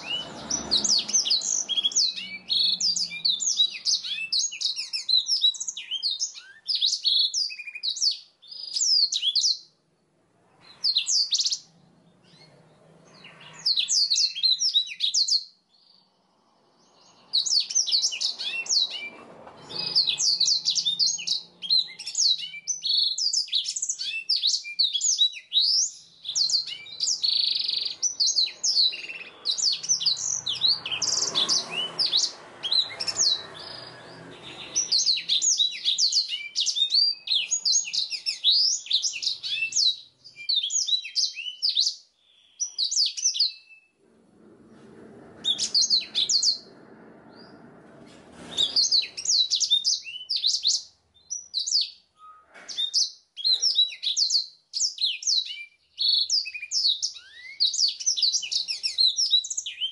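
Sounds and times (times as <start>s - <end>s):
canary singing: 0.0s - 9.8s, 10.6s - 44.0s, 45.4s - 47.8s, 48.4s - 59.9s.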